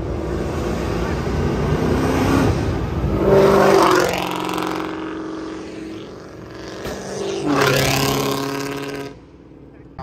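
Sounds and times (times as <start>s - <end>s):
car accelerating past: 0.0s - 9.4s.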